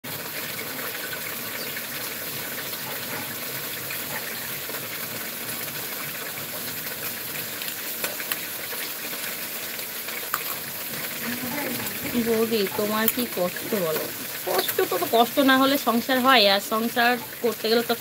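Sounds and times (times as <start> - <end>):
food sizzling in a pan: 0.1 - 18.0.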